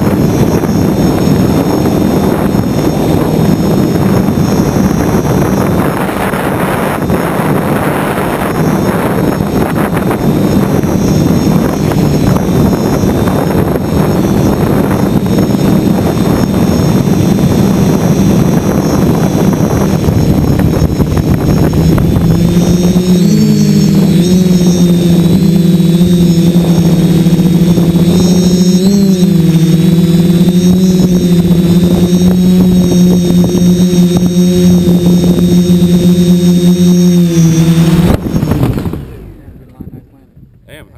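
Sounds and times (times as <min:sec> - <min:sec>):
drone motors and propellers: 0:00.0 - 0:40.9
rushing wind noise: 0:00.0 - 0:40.9.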